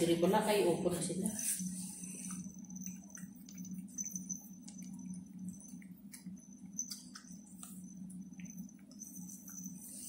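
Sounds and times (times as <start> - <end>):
low steady hum: 0.0 - 10.0
cats chewing: 1.9 - 10.0.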